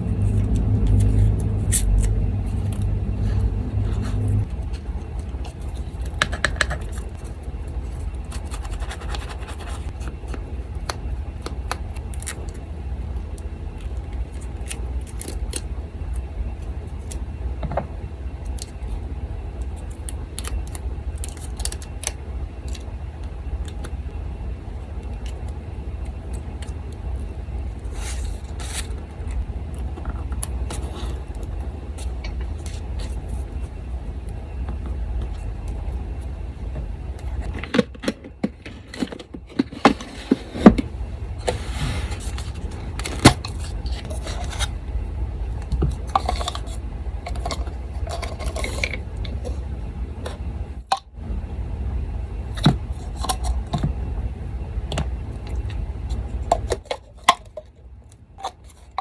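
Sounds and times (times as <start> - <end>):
electric fan humming: 0.0 - 59.0.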